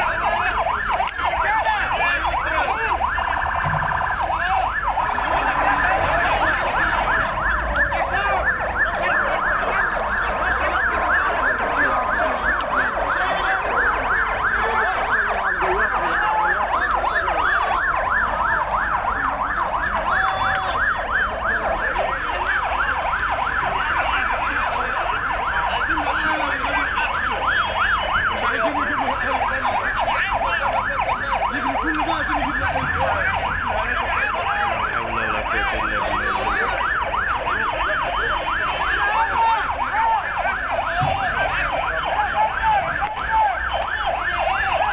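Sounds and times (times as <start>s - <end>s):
emergency siren yelping: 0.0s - 44.9s.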